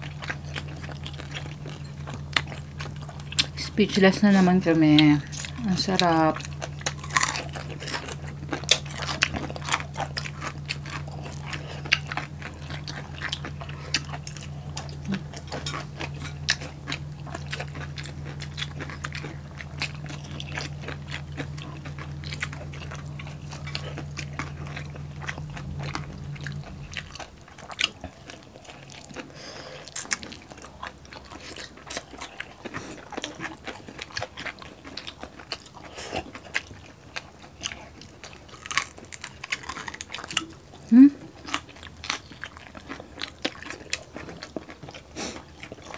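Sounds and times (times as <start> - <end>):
crunching crispy pork skin: 0.0 - 3.6, 4.9 - 45.9
steady low hum: 0.0 - 45.9
wet chewing: 0.0 - 45.9.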